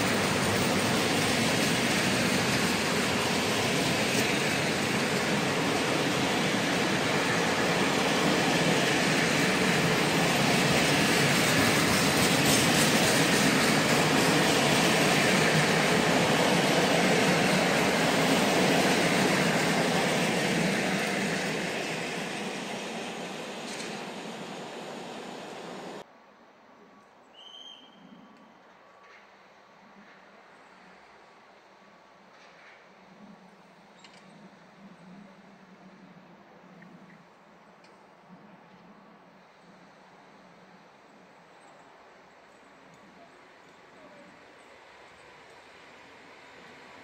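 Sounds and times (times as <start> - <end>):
train wheels rumbling on rail: 0.0 - 26.1, 32.0 - 47.0.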